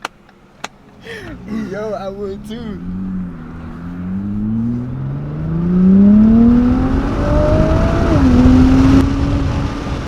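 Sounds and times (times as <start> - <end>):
car engine accelerating: 0.8 - 10.0.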